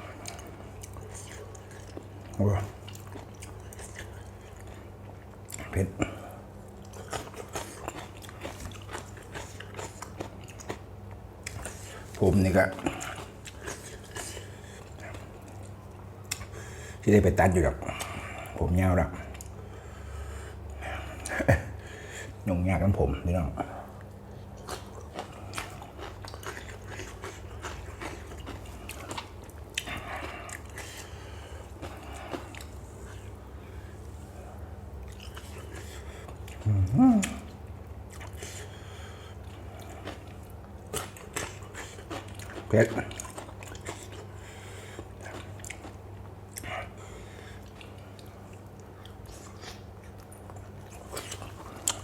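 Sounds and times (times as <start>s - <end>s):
person chewing crunchy food: 0.0s - 16.8s, 23.9s - 52.0s
steady low hum: 0.0s - 52.0s.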